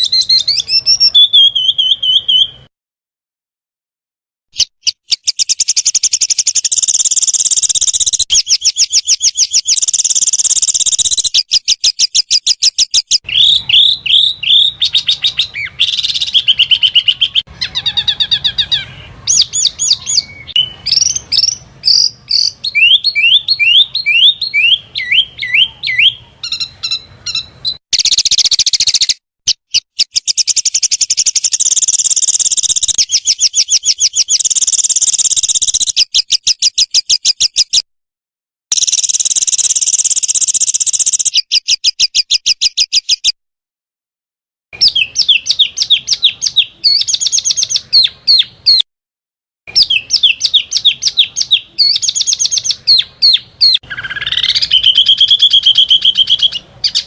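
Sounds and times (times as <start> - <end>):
songbirds trilling and chirping: 0.0 - 2.7, 4.6 - 37.8, 38.7 - 43.4, 44.8 - 48.8, 49.7 - 57.0.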